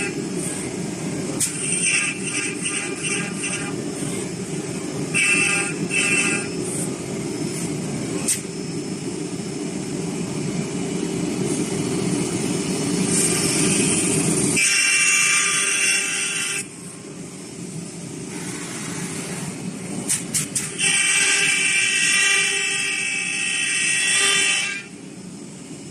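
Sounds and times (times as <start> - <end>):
high-pitched machine whine: 0.0 - 25.9.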